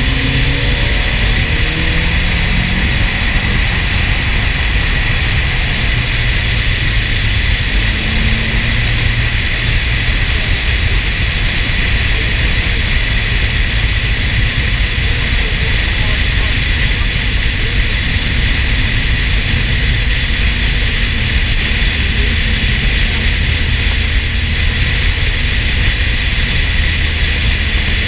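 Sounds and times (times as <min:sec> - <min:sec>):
road noise: 0:00.0 - 0:28.0
wind rush: 0:00.0 - 0:28.0.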